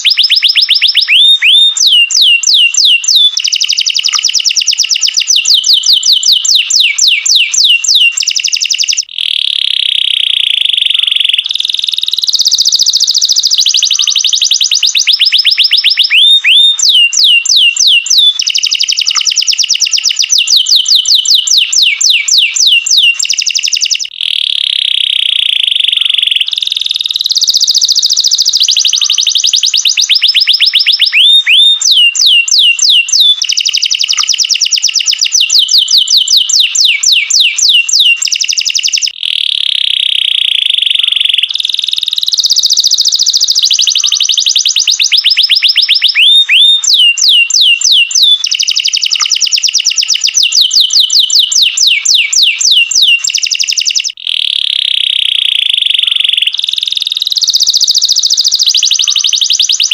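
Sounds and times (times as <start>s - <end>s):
canary singing fast trills: 0.0s - 59.9s.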